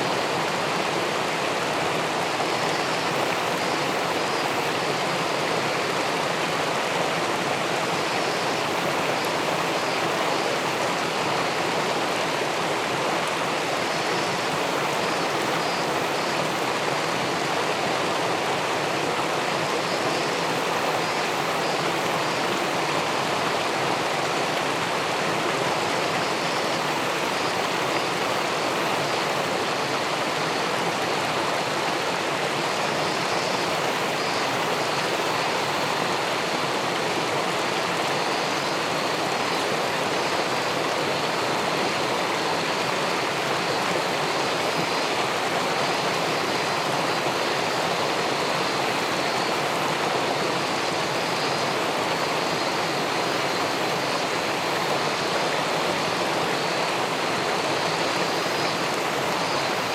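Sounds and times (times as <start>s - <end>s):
river water rushing below weir: 0.0s - 59.9s.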